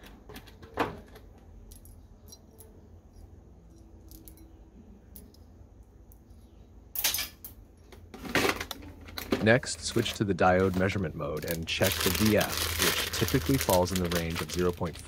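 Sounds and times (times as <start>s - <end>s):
small components clinking: 0.3s - 15.0s.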